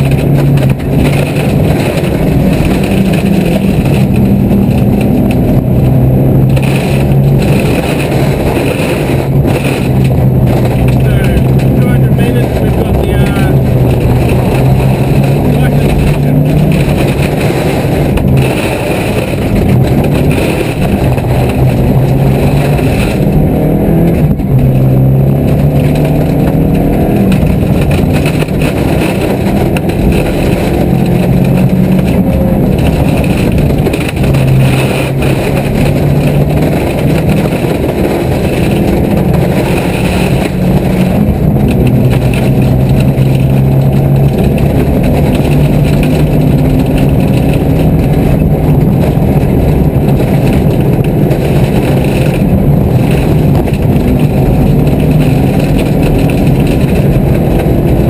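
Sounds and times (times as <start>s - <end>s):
car engine revving: 0.0s - 58.0s
road noise: 0.0s - 58.0s.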